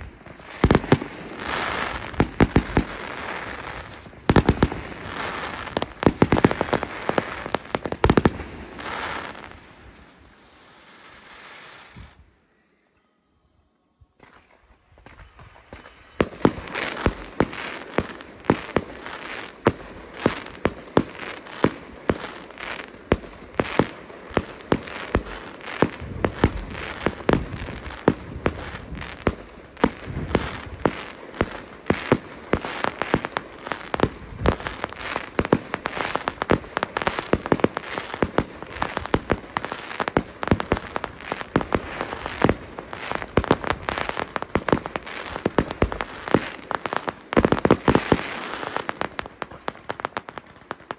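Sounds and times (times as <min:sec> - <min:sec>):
firework bangs: 0:00.0 - 0:12.2, 0:14.2 - 0:50.9
fireworks hissing and crackling: 0:00.0 - 0:12.3, 0:14.2 - 0:50.9.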